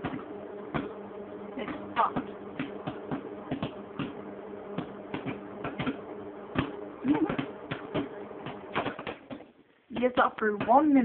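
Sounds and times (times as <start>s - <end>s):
microwave oven humming: 0.0s - 11.0s
popcorn popping: 0.0s - 11.0s.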